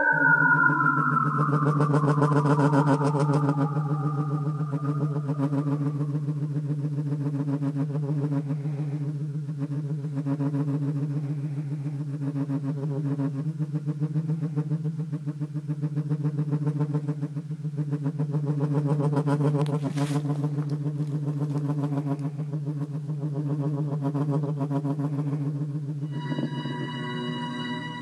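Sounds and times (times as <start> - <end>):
synthesized ufo hum with pulsing flutter: 0.0 - 28.0.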